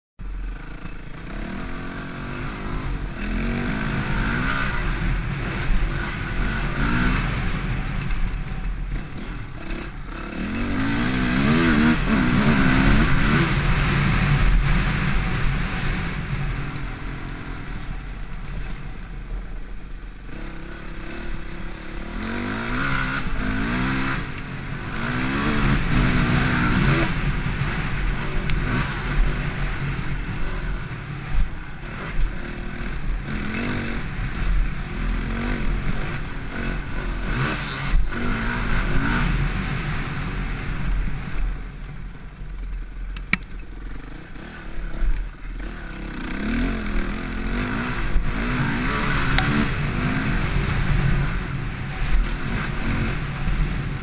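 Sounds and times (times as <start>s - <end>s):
dirt bike engine revving: 0.4s - 19.0s, 19.9s - 41.6s, 43.7s - 54.0s.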